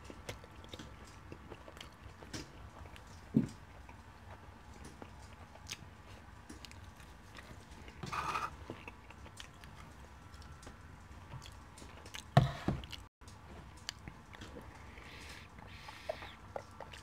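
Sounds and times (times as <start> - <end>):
man chewing: 0.0 - 17.0.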